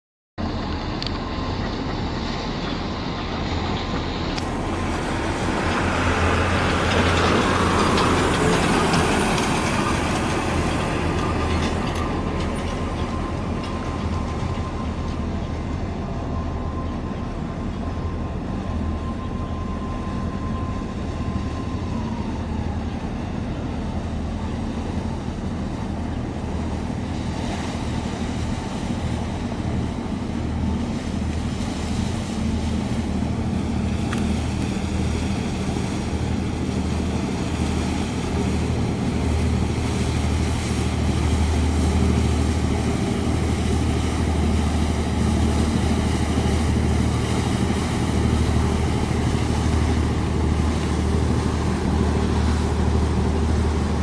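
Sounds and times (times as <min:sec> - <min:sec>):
ship rumble: 0:00.4 - 0:54.0.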